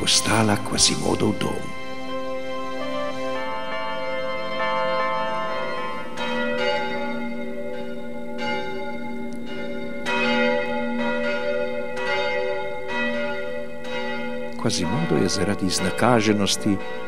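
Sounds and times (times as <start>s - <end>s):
large church bells pealing: 0.0s - 17.0s.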